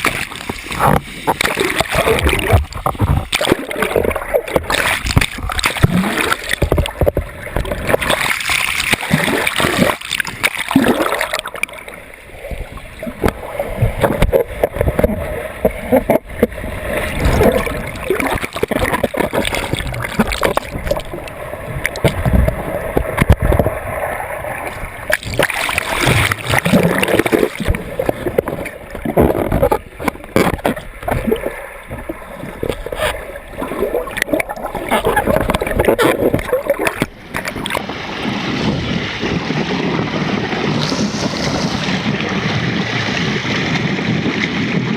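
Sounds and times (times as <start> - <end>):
whirlpool water churning and splashing: 0.0 - 44.9.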